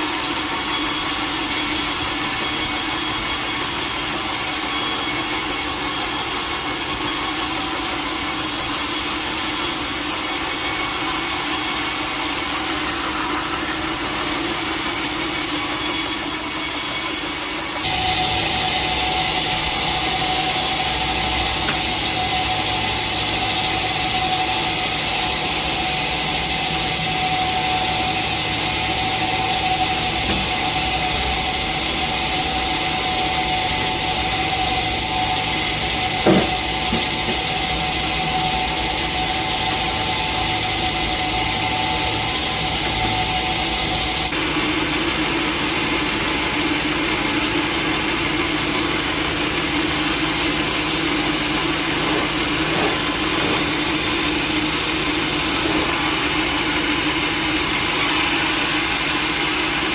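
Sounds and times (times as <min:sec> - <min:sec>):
machine noise: 0:00.0 - 0:59.9
sawmill blade whining through log: 0:00.0 - 0:59.9.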